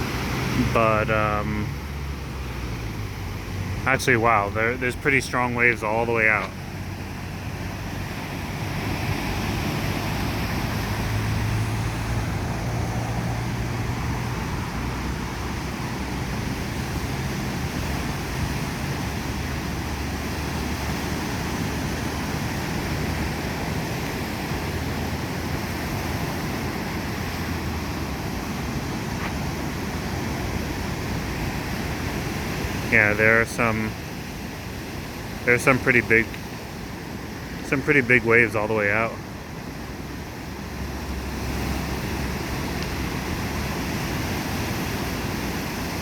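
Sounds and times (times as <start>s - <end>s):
ocean surf: 0.0s - 46.0s.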